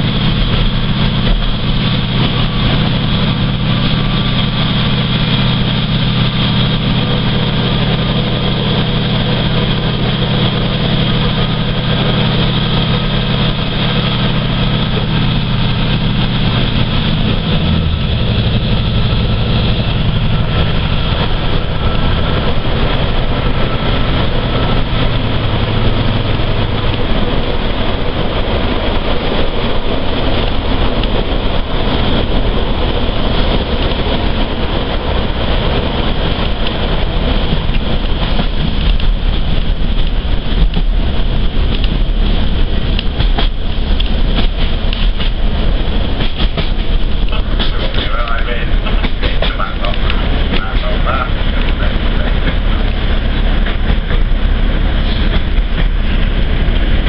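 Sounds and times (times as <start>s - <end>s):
train diesel engine hum: 0.0s - 57.0s
train running on rails: 0.0s - 57.0s.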